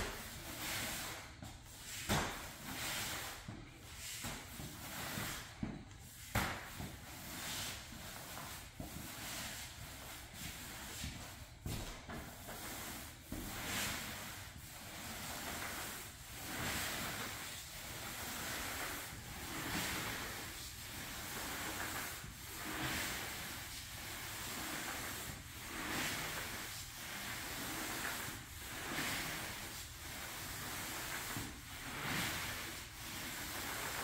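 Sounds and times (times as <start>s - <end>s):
applicator swishing on floor: 0.0s - 34.0s.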